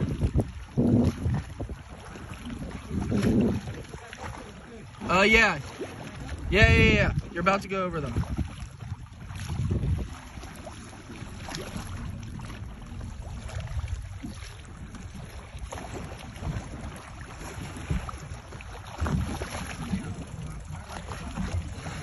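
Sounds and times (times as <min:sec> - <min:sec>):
water sloshing against boat: 0:00.0 - 0:22.0
wind buffeting microphone: 0:00.0 - 0:22.0.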